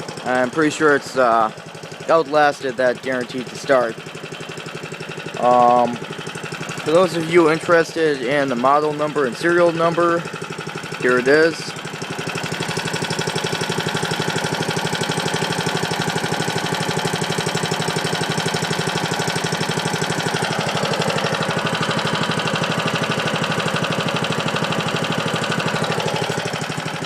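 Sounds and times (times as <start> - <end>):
lawn mower engine idling: 0.0 - 27.0.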